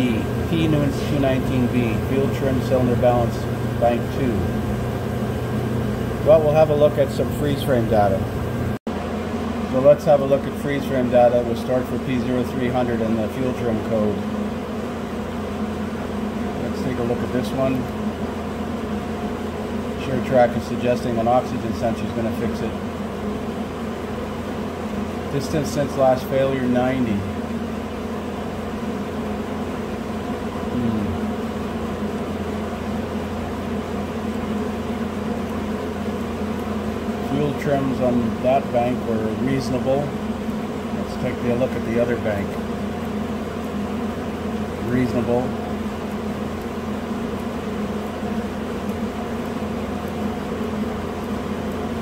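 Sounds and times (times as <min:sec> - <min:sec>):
low mechanical hum: 0:00.0 - 0:52.0.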